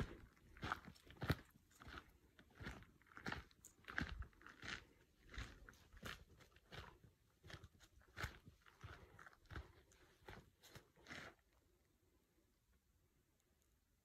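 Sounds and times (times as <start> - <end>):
footsteps crunching on forest ground: 0.0 - 11.6.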